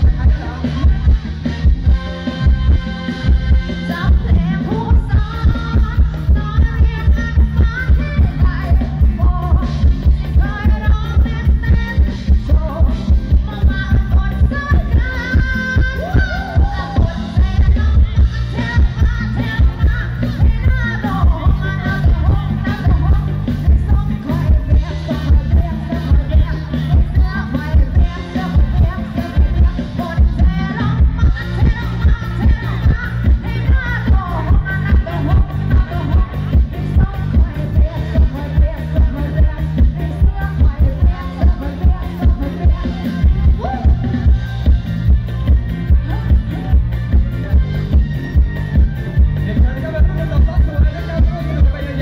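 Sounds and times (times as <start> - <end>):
woman singing into microphone: 0.0 - 48.6
heavy drum beat: 0.0 - 52.0
live band music: 0.0 - 52.0.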